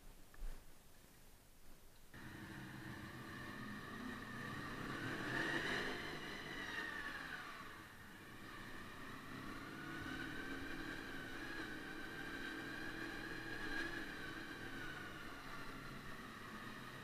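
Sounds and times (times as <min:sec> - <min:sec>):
motorcycle engine running at low revs: 0:02.2 - 0:17.0.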